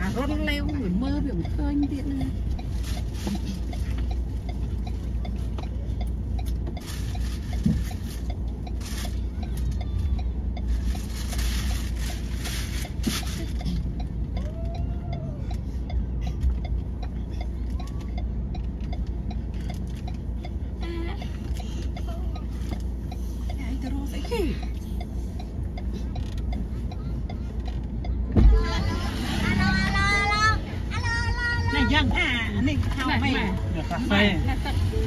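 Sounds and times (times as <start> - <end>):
car engine idling: 0.0 - 35.0
muffled street sounds: 0.0 - 35.0.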